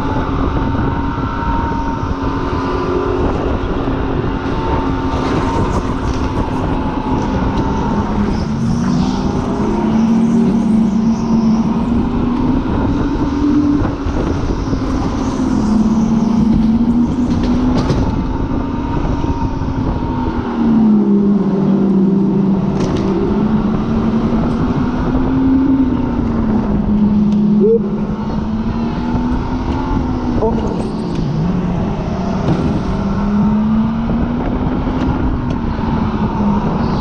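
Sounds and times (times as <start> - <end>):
supercharged car engine racing: 0.0 - 37.0.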